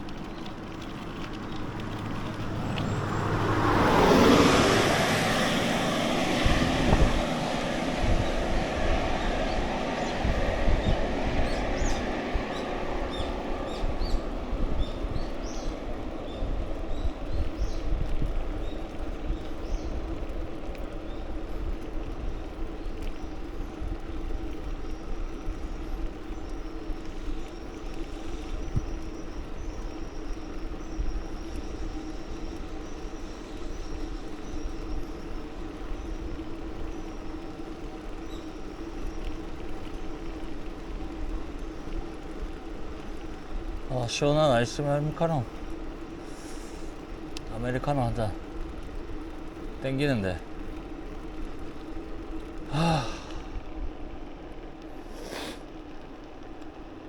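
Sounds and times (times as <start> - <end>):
bicycle tyres humming: 0.0 - 57.0
wind rumbling on microphone: 0.0 - 57.0.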